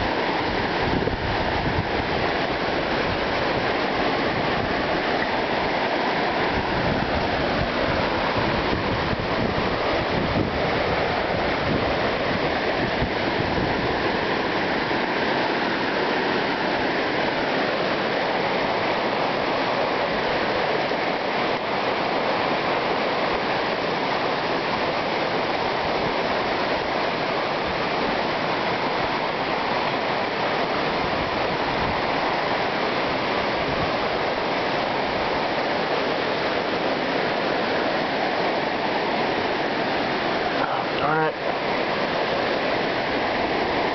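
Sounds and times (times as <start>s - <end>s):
stream water flowing over rocks: 0.0s - 43.9s.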